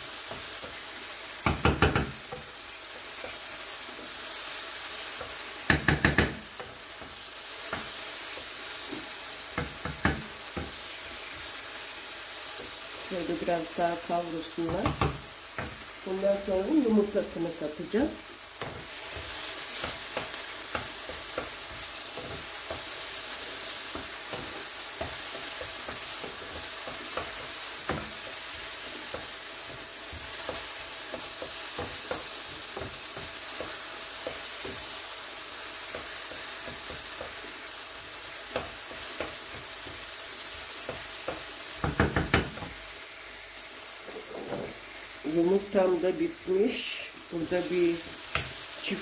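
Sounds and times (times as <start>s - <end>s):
vegetables sizzling in oil: 0.0s - 49.0s.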